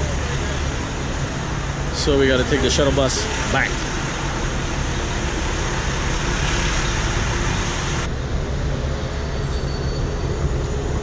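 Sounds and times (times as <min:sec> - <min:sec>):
large vehicle engine rumbling: 0:00.0 - 0:11.0.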